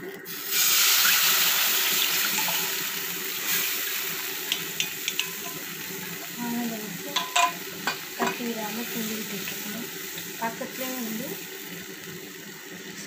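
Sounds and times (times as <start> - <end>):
batter hissing in hot pan: 0.0 - 13.0.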